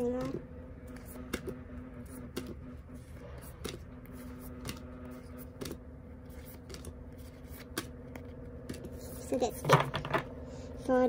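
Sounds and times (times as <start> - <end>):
postcards tapping down: 0.0 - 10.3
steady low hum: 0.0 - 11.0.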